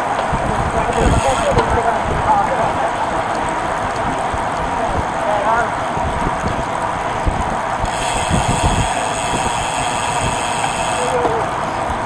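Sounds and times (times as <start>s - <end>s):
wind and road noise: 0.0s - 12.0s
wind buffeting microphone: 0.0s - 12.0s.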